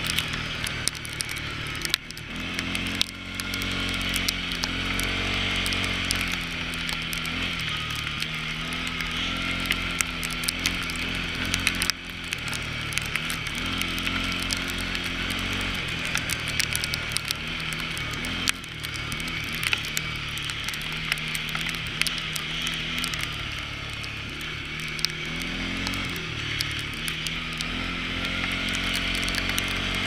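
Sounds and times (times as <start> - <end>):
atv engine revving: 0.0 - 30.0
sharp ticks: 0.0 - 30.0.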